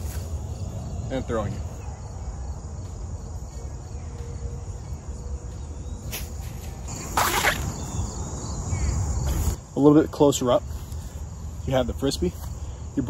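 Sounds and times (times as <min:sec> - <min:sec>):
high drone of insects: 0:00.0 - 0:13.0.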